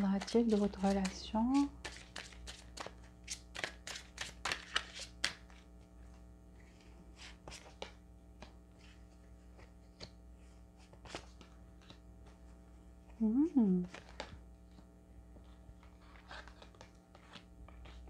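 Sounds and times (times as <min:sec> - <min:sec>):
cards being shuffled: 0:00.0 - 0:06.2, 0:06.8 - 0:12.4, 0:13.8 - 0:18.0.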